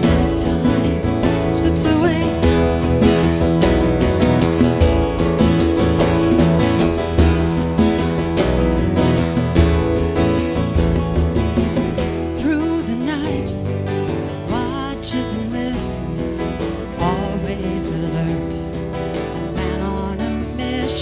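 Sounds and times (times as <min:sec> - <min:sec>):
strummed acoustic guitar: 0:00.0 - 0:21.0
sustained bass notes: 0:00.0 - 0:21.0.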